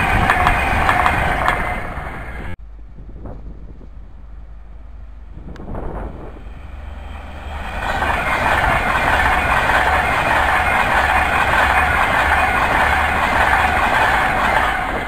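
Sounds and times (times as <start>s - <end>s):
electric train passing at speed: 0.0s - 2.6s, 4.0s - 15.0s.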